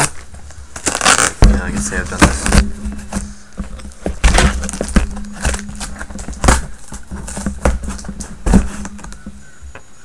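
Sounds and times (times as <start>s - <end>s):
cardboard box scraping and rustling: 0.7s - 9.4s.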